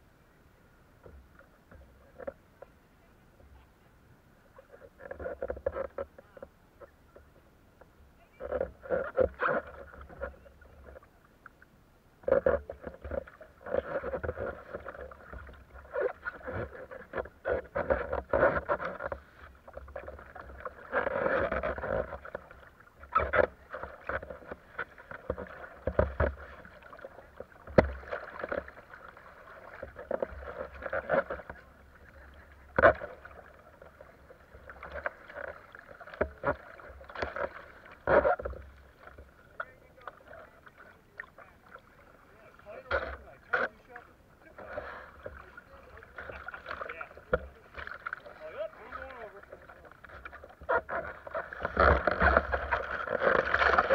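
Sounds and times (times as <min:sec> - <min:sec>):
water sloshing and splashing: 0:04.5 - 0:53.9.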